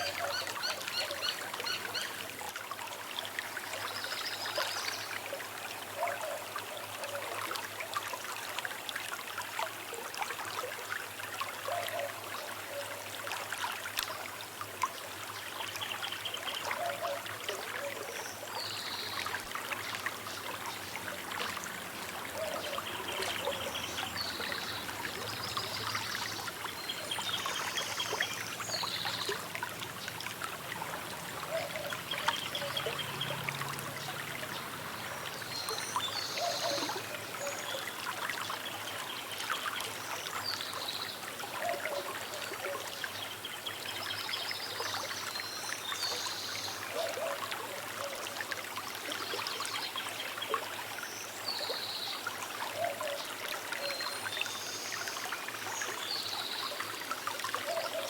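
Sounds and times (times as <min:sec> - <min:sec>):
river flowing and trickling: 0:00.0 - 0:58.0.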